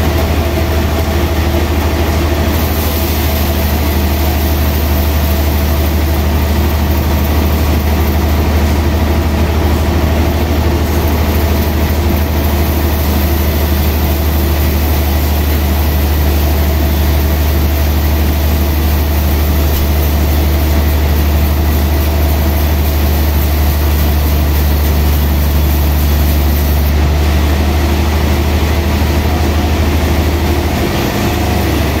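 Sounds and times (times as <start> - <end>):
sawmill machinery droning: 0.0 - 32.0.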